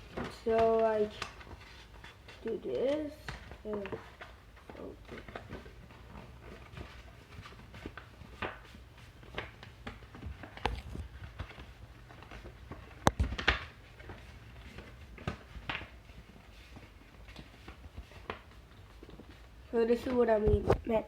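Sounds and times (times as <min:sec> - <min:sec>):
paper rustling and creasing: 0:00.0 - 0:21.0.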